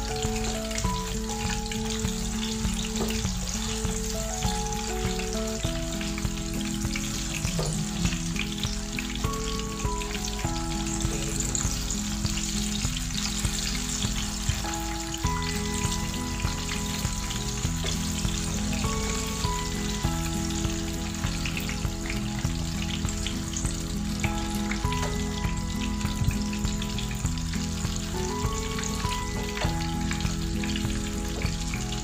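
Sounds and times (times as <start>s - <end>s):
background music: 0.0s - 32.0s
fritters sizzling in hot oil: 0.0s - 32.0s.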